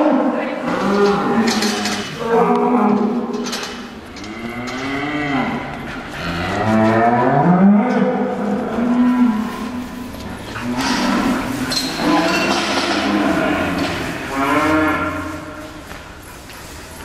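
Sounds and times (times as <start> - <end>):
cattle mooing: 0.6 - 3.3, 4.2 - 15.6.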